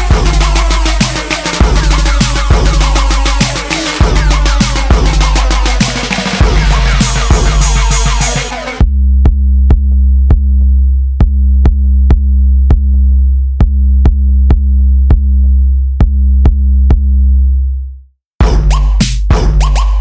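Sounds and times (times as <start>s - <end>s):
deep bass drone: 0.0s - 20.0s.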